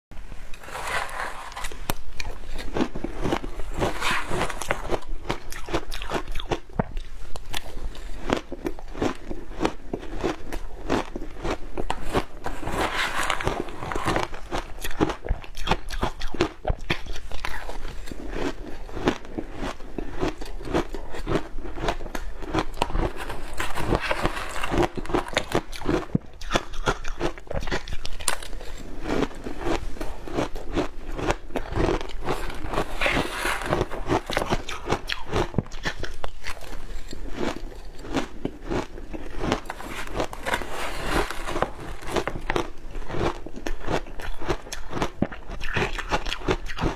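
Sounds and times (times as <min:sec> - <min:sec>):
ice being bitten and chewed: 0:00.5 - 0:46.9.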